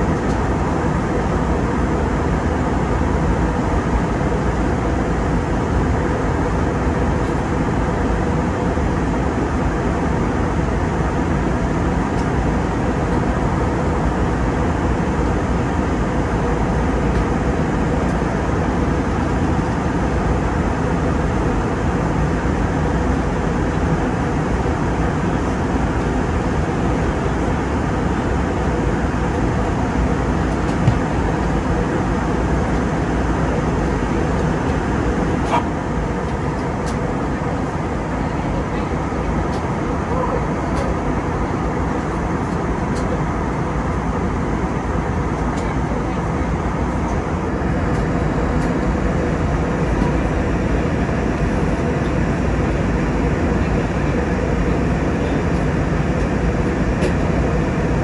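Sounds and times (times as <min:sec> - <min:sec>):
low jet engine drone: 0:00.0 - 0:58.0.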